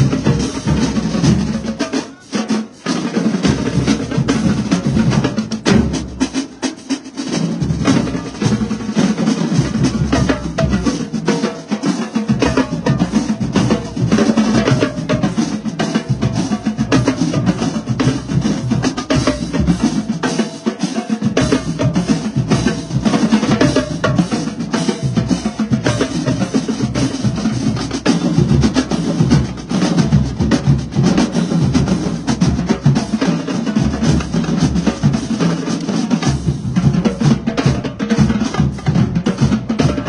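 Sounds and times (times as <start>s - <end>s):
marching drumline playing: 0.0s - 40.0s.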